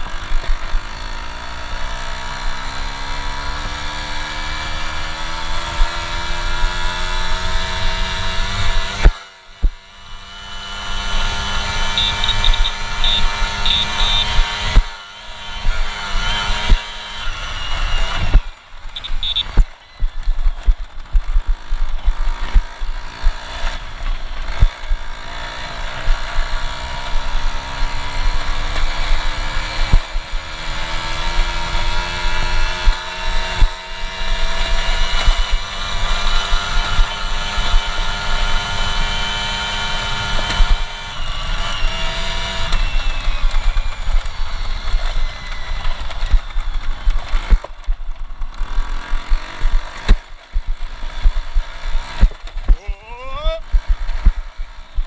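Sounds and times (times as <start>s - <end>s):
moped two-stroke engine: 0.0s - 55.0s.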